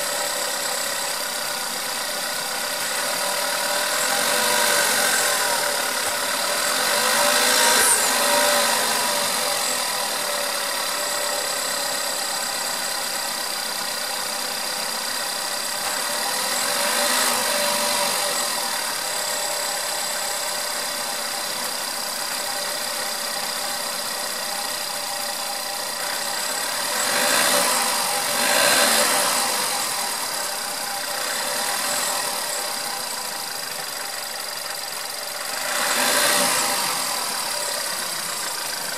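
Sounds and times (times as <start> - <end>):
car engine idling: 0.0 - 38.9
engine rattle: 0.0 - 38.9
engine whistling: 0.0 - 38.9.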